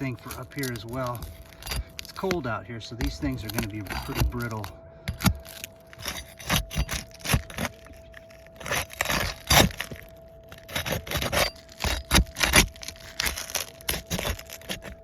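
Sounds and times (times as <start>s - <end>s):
shingles cracking: 0.0s - 15.0s
shingles scraping: 0.0s - 15.0s.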